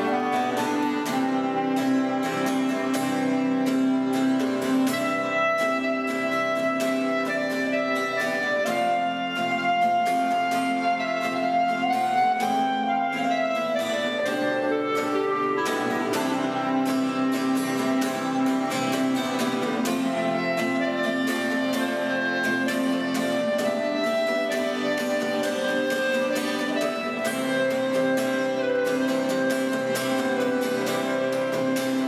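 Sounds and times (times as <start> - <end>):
instrumental background music: 0.0 - 32.0.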